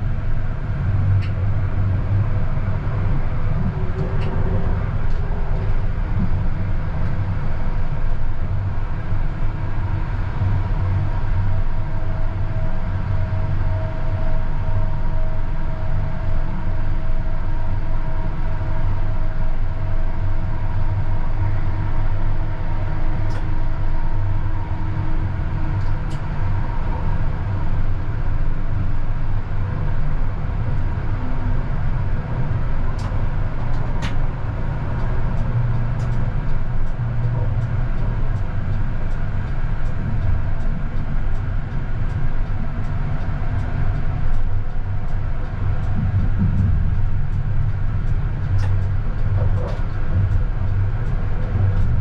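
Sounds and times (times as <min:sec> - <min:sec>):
tram wheels rumbling on rails: 0:00.0 - 0:52.0.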